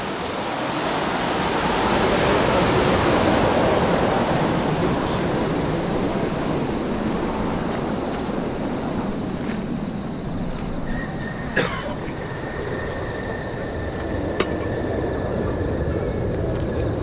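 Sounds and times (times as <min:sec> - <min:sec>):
jet airliner roar overhead: 0:00.0 - 0:17.0.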